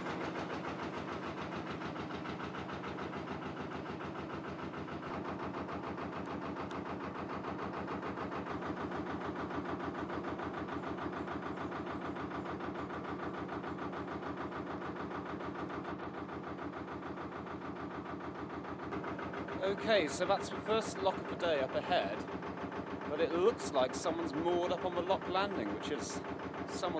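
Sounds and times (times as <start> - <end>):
boat diesel engine running: 0.0 - 26.9.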